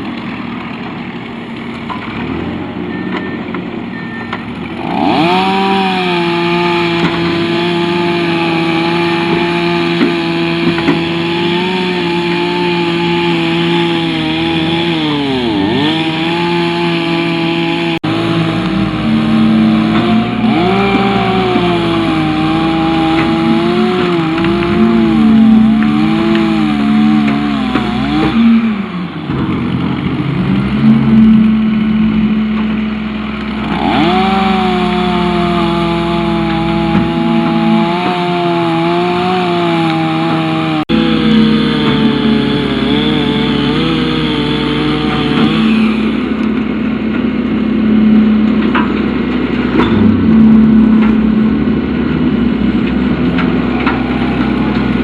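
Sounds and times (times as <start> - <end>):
chainsaw running: 4.5 - 29.3, 30.0 - 55.0.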